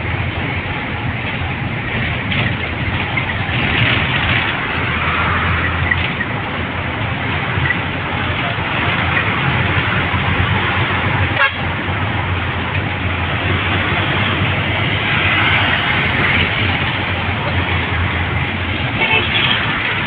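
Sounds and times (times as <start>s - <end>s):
engine hum: 0.0s - 20.0s
tyres and wind rushing: 0.0s - 20.0s.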